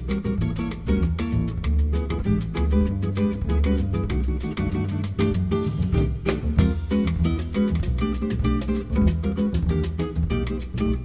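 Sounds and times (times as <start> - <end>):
fast plucked strings music: 0.0 - 11.0.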